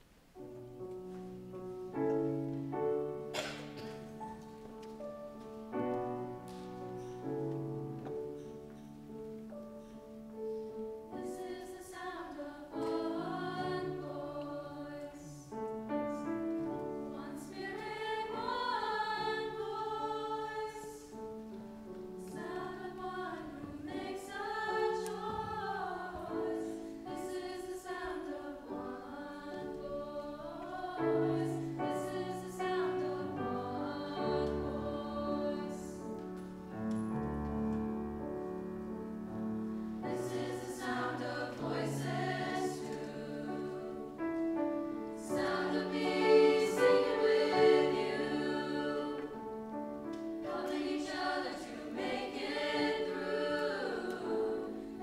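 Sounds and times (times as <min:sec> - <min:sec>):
choir singing slow song: 0:01.2 - 0:37.2, 0:38.2 - 0:55.0.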